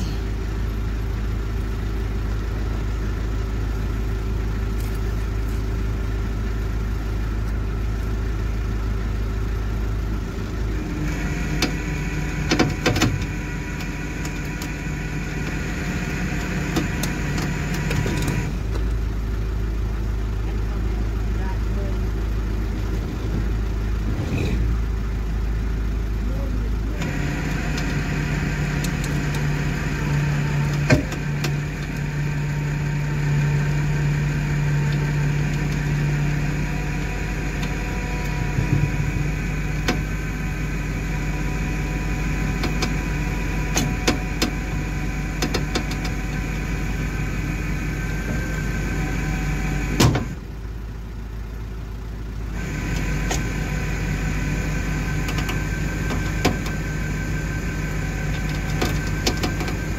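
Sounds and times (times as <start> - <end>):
diesel truck engines running: 0.0 - 59.9.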